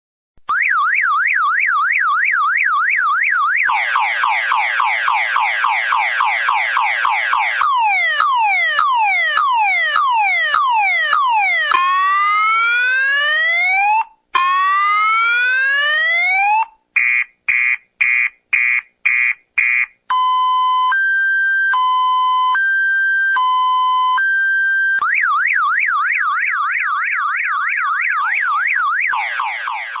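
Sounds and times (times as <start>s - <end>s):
car alarm siren: 0.5s - 30.0s.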